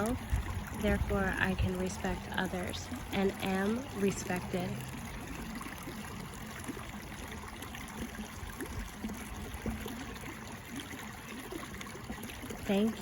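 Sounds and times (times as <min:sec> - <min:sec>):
water trickling and bubbling: 0:00.0 - 0:13.0.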